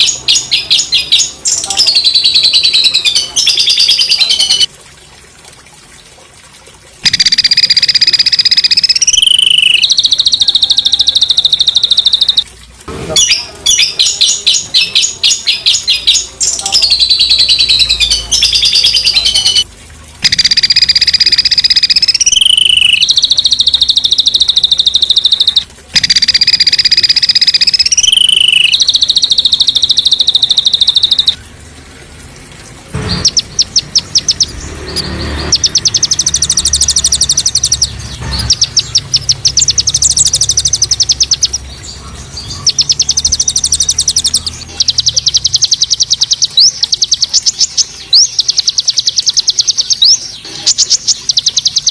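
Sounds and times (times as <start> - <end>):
bird sharp repeated notes: 0.0 - 4.7, 7.0 - 12.5, 13.2 - 31.4, 33.0 - 41.7, 42.5 - 51.9
songbird trilling: 0.0 - 4.7, 7.0 - 12.5, 13.2 - 31.4, 33.2 - 51.9.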